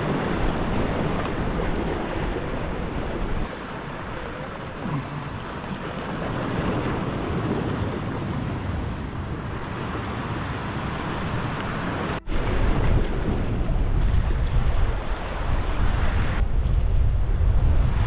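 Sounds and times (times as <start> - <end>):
sea washing against rocks: 0.0 - 16.5
wind on microphone: 0.0 - 18.0.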